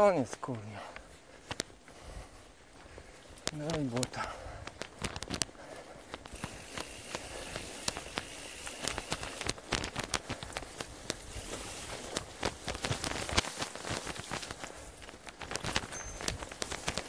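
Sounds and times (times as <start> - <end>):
rustling and snapping undergrowth: 3.2 - 17.0.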